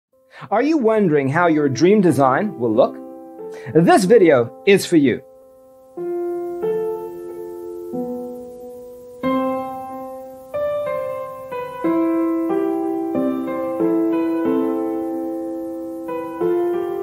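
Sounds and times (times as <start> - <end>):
gentle piano music: 0.3 - 17.0.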